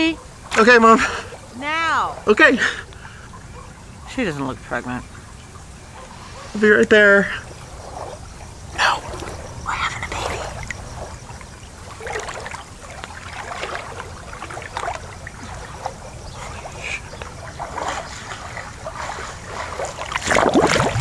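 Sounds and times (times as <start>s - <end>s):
pool water sloshing and splashing: 0.0s - 21.0s.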